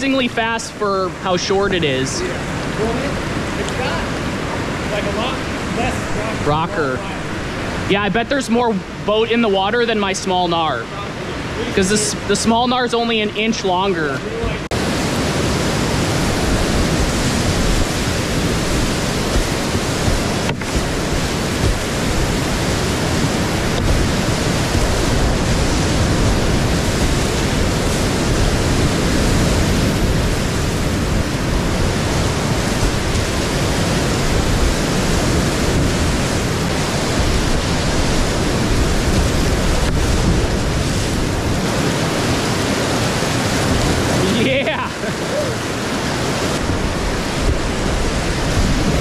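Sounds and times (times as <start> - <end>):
whitewater rapids rushing: 0.0 - 49.0.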